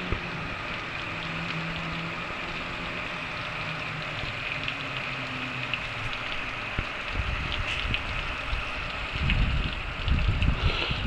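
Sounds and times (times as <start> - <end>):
water jet spraying on metal: 0.0 - 11.0.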